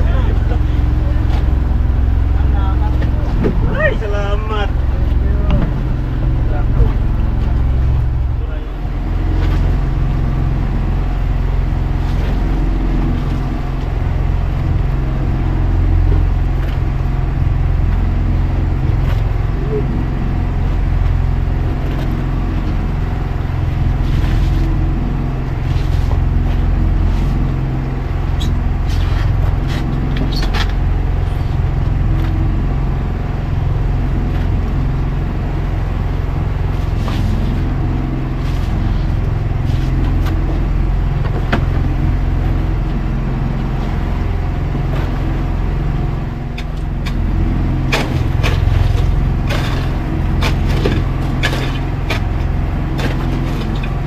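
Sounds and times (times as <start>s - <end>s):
boat engine humming: 0.0s - 54.0s.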